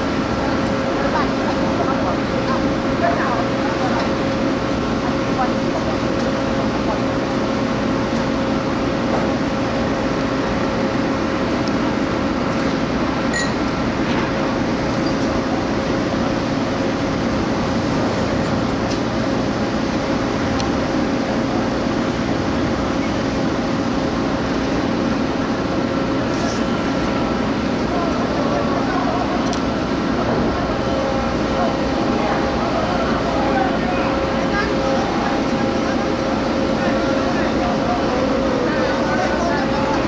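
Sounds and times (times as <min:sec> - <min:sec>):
heavy ship machinery droning: 0:00.0 - 0:40.0.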